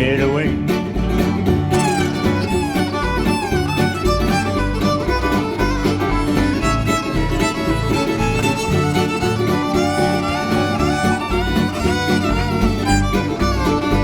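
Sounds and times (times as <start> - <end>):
fiddle melody: 0.0 - 14.0
steady bass beat: 0.0 - 14.0
strummed guitar: 0.0 - 14.0.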